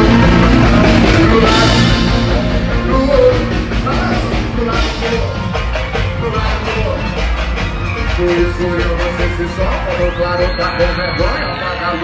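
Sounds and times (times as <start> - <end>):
live band music: 0.0 - 12.0
person singing: 0.0 - 12.0.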